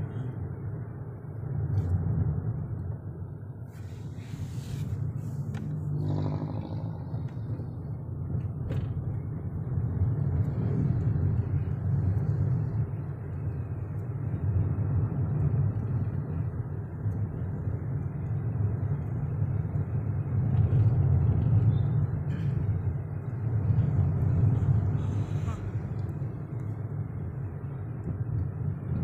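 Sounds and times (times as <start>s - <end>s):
car interior road rumble: 0.0s - 29.0s.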